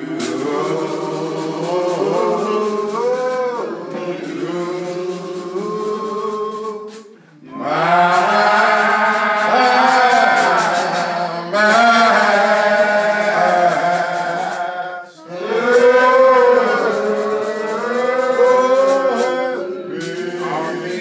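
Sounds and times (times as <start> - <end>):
man singing hymn into microphone: 0.0 - 21.0.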